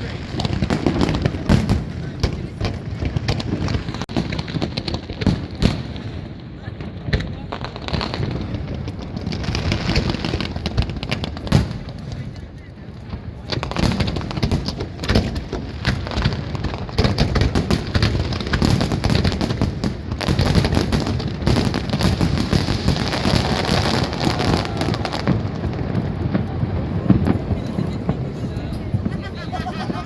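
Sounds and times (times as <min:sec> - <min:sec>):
dense crackling of fireworks: 0:00.0 - 0:30.0
fireworks bangs: 0:00.0 - 0:30.0.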